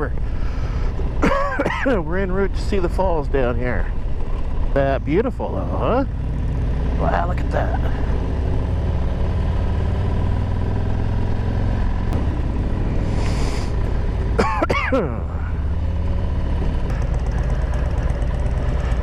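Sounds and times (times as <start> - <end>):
motorcycle engine running: 0.0 - 19.0
road and wind rumble: 0.0 - 19.0.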